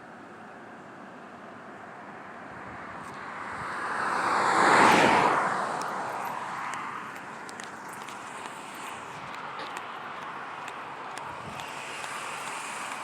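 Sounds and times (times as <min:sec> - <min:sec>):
car passing: 0:01.9 - 0:13.0.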